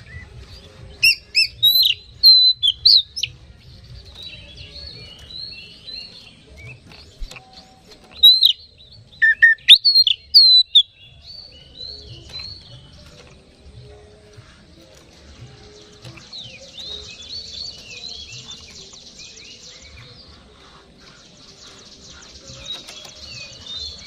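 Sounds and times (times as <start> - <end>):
bird whistled song: 0.0 - 24.0.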